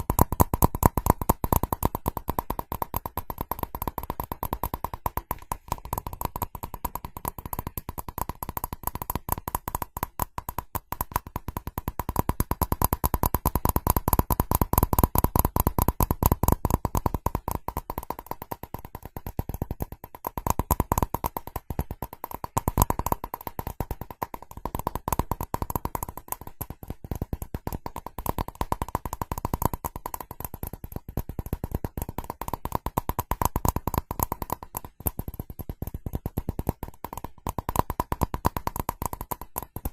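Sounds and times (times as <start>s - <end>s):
fast tapping on ceramic: 0.0s - 39.9s.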